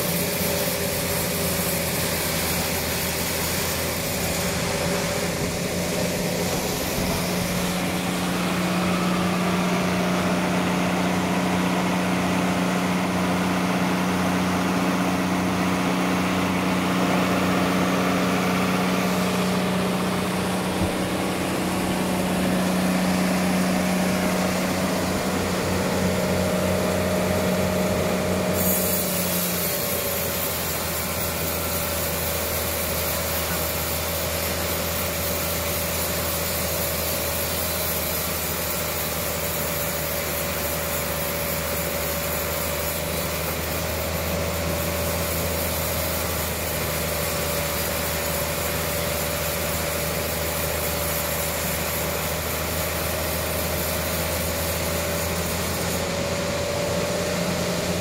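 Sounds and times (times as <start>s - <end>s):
band sawmill cutting a log: 0.0s - 58.0s.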